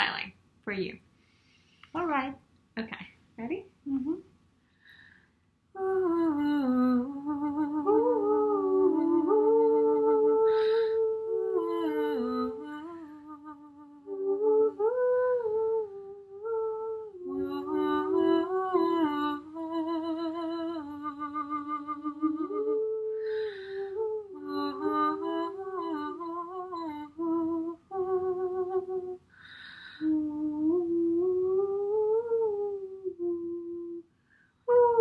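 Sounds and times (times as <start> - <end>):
women singing wordless melody: 5.7 - 35.0.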